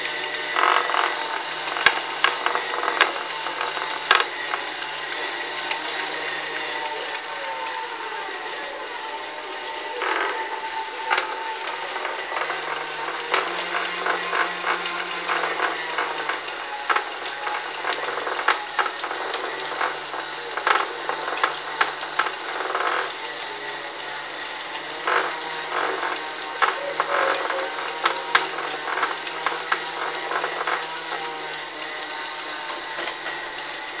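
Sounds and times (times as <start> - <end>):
bicycle trainer humming: 0.0 - 34.0.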